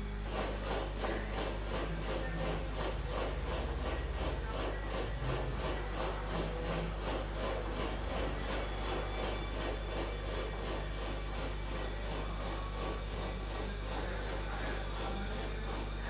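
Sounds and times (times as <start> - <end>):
insect chorus pulsing: 0.0 - 16.0
steady high insect whine: 0.0 - 16.0.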